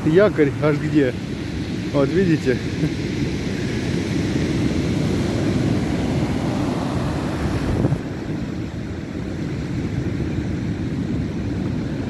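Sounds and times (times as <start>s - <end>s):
surf crashing on shore: 0.0s - 12.0s
wind buffeting microphone: 0.0s - 12.0s.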